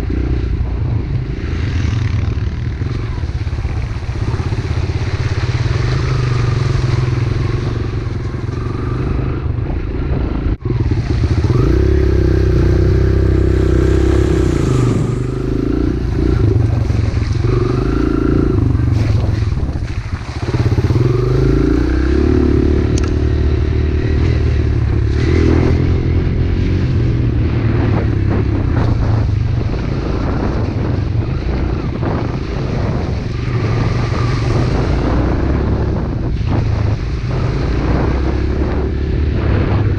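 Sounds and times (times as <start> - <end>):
pit bike engine revving: 4.2 - 9.6, 10.2 - 39.9.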